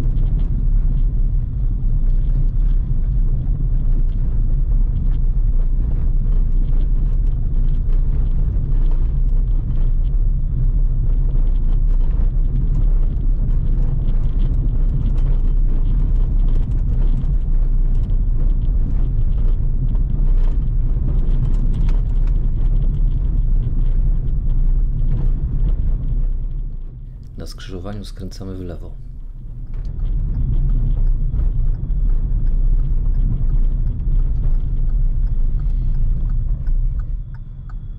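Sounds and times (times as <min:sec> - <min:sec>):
tyres rumbling on cobblestones: 0:00.0 - 0:37.9.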